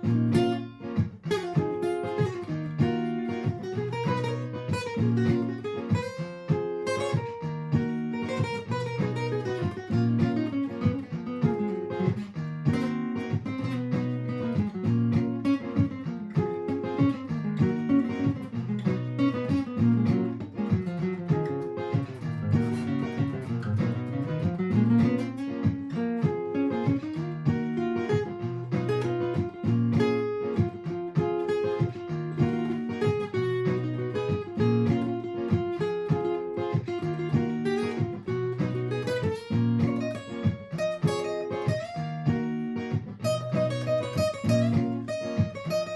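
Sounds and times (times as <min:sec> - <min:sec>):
single-note guitar lines: 0:00.0 - 0:45.9
strummed acoustic guitar loop: 0:00.0 - 0:45.9.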